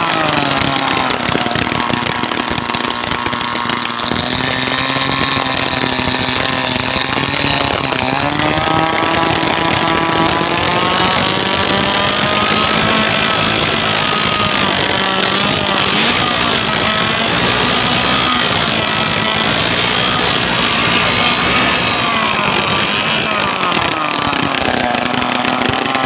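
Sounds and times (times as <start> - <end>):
propeller splashing water: 0.0 - 26.0
small petrol engine running hard: 0.0 - 26.0.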